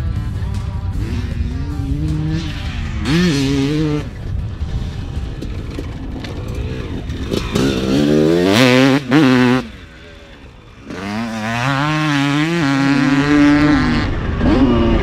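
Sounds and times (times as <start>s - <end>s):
motocross engine revving: 0.9s - 15.0s.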